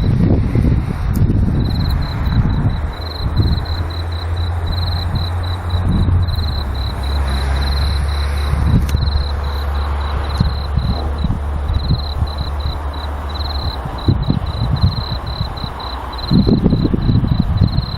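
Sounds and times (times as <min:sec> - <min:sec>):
diesel train engine drone: 0:00.0 - 0:17.9
insects chirping: 0:01.2 - 0:17.9.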